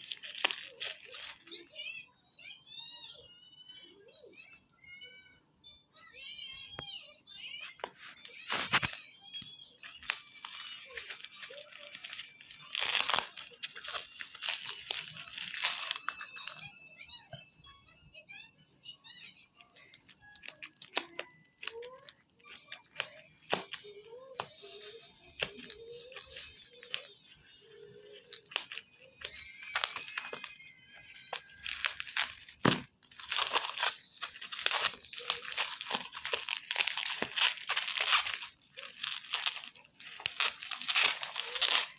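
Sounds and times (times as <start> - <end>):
plastic packaging crinkling and tearing: 0.0 - 2.2, 7.6 - 17.5, 19.6 - 41.9.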